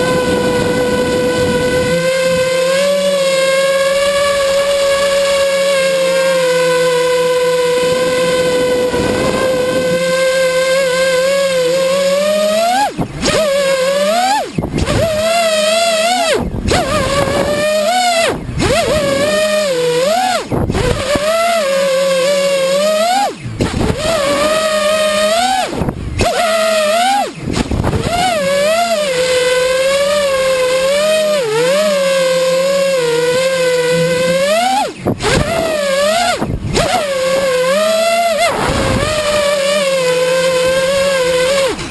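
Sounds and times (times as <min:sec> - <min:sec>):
drone motors whining: 0:00.0 - 0:41.9.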